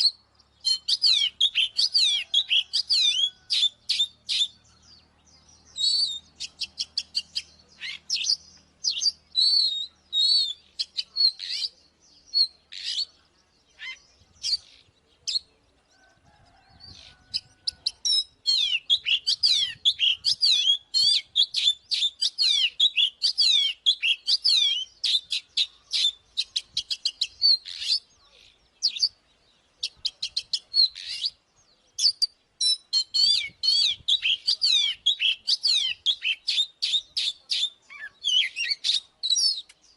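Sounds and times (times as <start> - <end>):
magpie-robin singing whistled phrases: 0.0 - 15.5, 17.3 - 29.2, 29.8 - 39.9.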